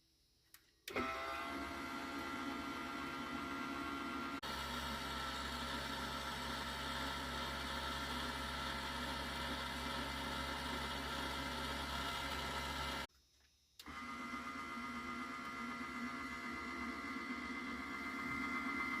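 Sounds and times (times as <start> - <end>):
geared motor whining: 0.9 - 13.1, 13.8 - 19.0.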